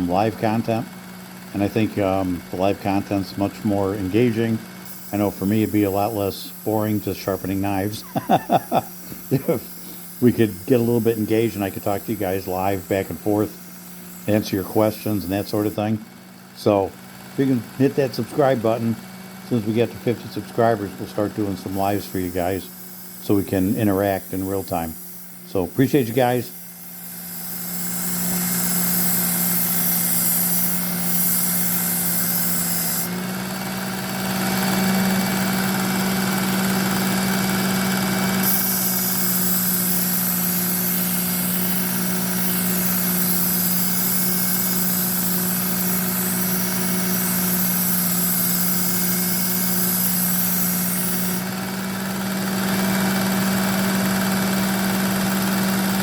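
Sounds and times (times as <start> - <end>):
belt sharpener motor whirring: 0.0 - 56.0.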